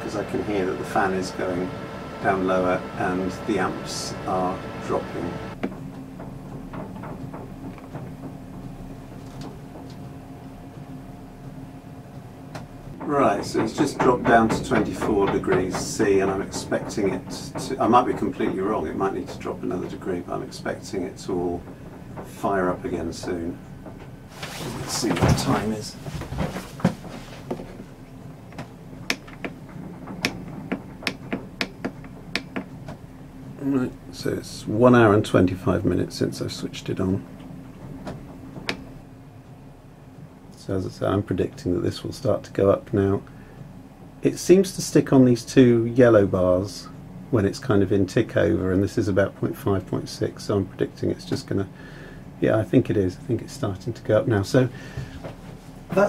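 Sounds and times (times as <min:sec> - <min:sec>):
heater fan humming: 0:00.0 - 0:56.0.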